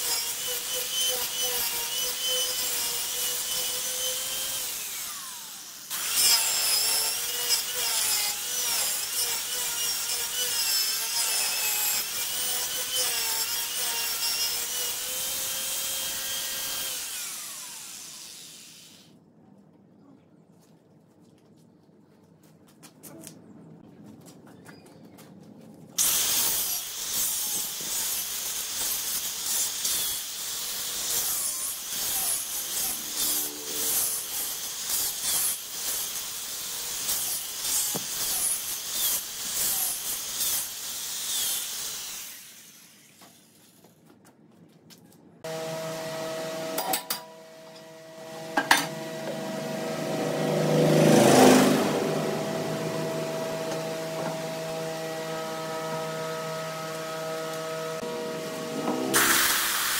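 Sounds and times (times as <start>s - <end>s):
angle grinder sanding wood: 0.0s - 18.9s, 26.0s - 42.6s, 45.5s - 59.9s.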